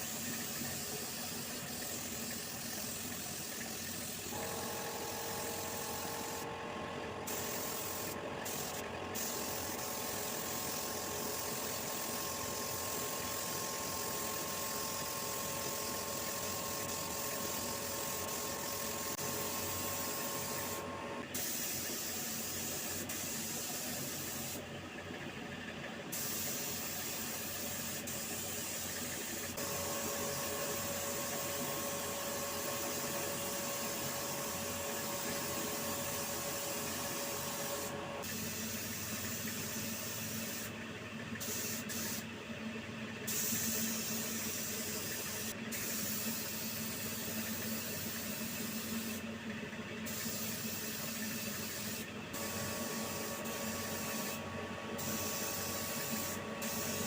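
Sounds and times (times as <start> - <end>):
spray gun hissing: 0.0 - 6.5, 7.2 - 24.6, 26.1 - 40.7, 41.4 - 42.2, 43.3 - 49.2, 50.1 - 57.0
faint machine hum: 0.0 - 57.0.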